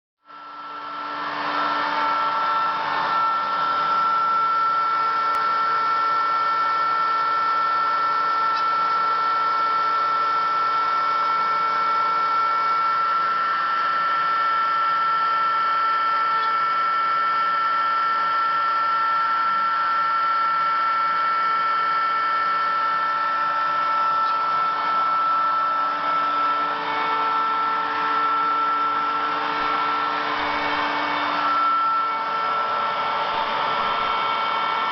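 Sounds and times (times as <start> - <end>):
lower machine tone: 0.2 - 34.9
machine motor whine: 0.3 - 34.9.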